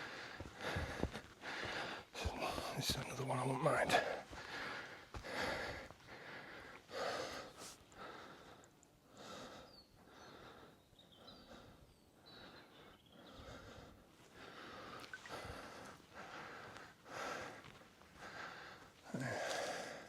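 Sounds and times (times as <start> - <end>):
person breathing: 0.0 - 2.6, 4.2 - 20.0.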